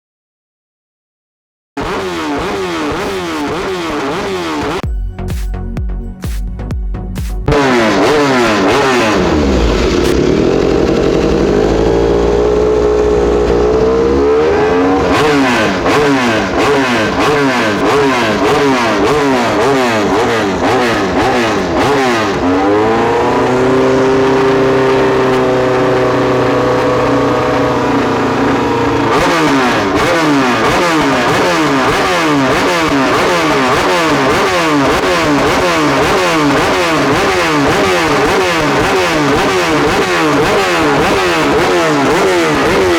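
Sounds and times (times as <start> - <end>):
racing motorcycles accelerating: 1.8 - 4.8, 7.5 - 42.9.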